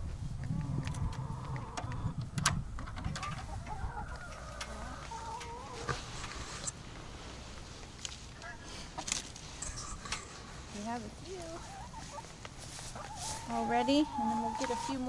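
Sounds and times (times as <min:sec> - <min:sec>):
hens clucking: 0:00.5 - 0:06.8, 0:08.3 - 0:15.0.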